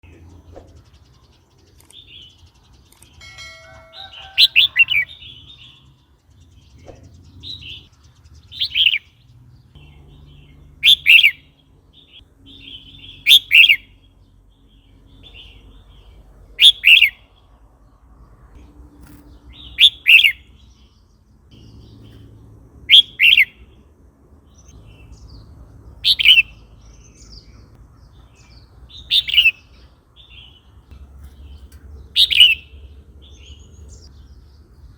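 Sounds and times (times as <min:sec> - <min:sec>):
bulbul singing: 0:00.0 - 0:17.6, 0:18.6 - 0:34.9.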